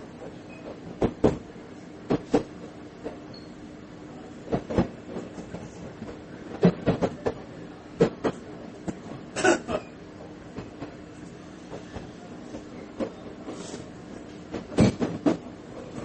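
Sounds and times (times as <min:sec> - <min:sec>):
railcar engine hum: 0:00.0 - 0:16.0.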